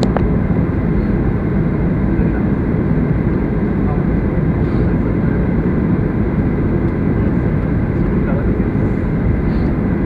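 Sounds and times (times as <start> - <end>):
air rushing along fuselage: 0.0 - 10.0
jet engines rumbling: 0.0 - 10.0.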